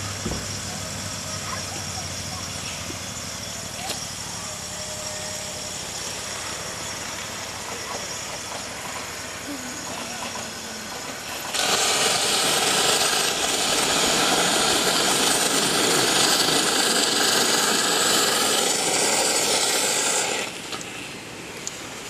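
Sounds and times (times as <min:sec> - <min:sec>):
steam hissing from locomotive: 0:00.0 - 0:22.0.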